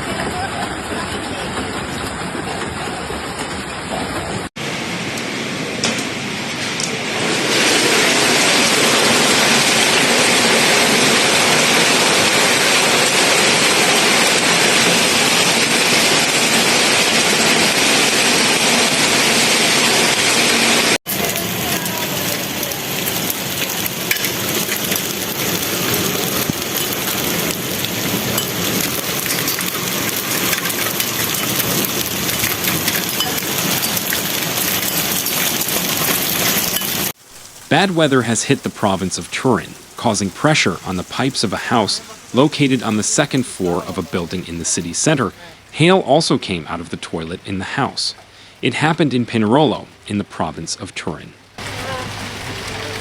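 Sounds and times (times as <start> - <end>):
hail and rain pelting down: 0.0 - 50.6, 51.4 - 53.0.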